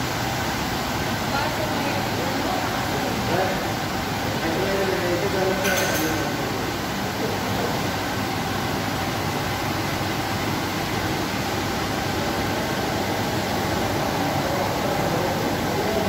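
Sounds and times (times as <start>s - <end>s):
continuous hiss and rush: 0.0s - 16.0s.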